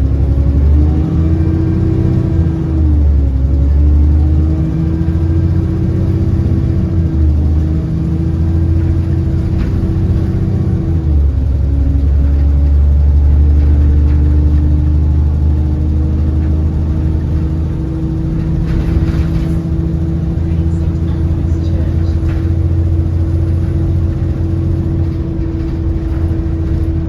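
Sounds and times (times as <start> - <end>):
bus engine drone: 0.0 - 27.0
constant whine: 0.0 - 27.0.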